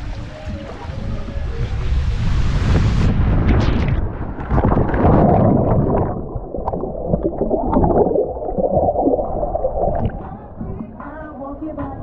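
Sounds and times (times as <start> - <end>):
water rushing and gurgling: 0.0 - 11.0.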